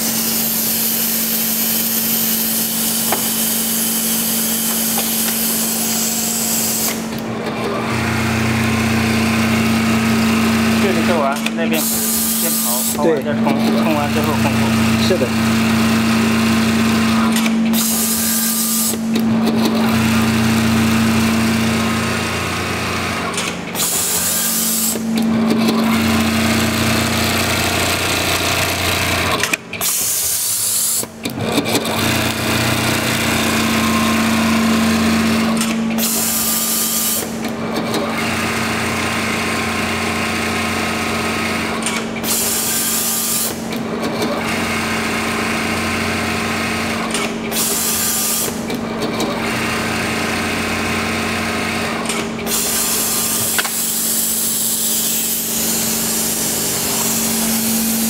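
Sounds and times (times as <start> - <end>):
sewing machine humming: 0.0 - 58.0.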